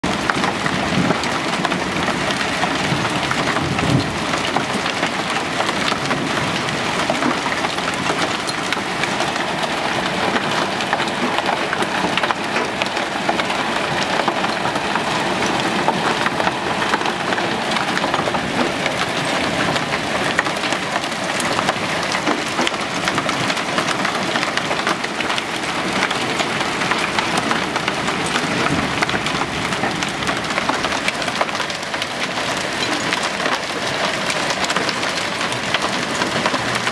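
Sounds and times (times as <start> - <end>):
hail rattling on deck: 0.0 - 36.9.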